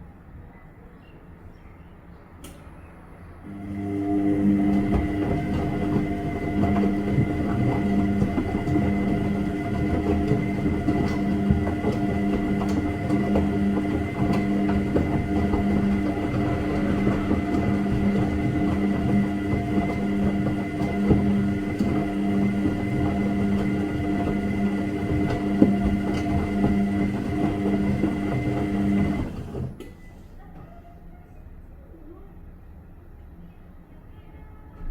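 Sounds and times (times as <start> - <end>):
washing machine running: 2.4 - 30.7.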